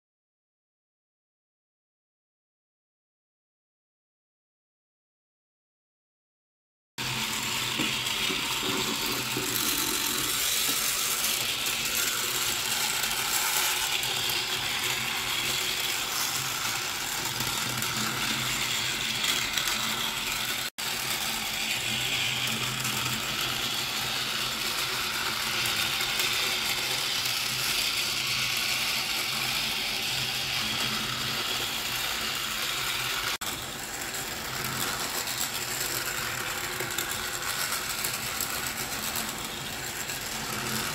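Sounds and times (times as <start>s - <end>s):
toy train motor whirring: 7.0s - 40.9s.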